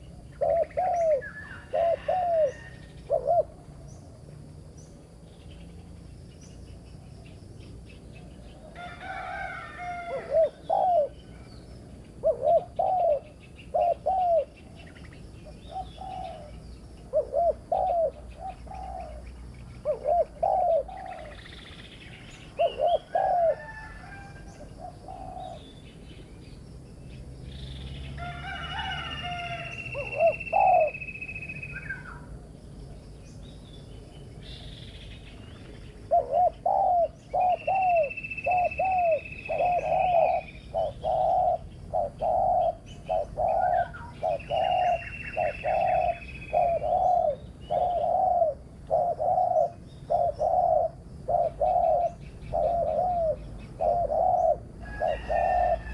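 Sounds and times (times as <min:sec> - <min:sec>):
doves cooing: 0:00.0 - 0:03.9, 0:08.6 - 0:25.7, 0:28.2 - 0:32.3, 0:35.9 - 0:55.9.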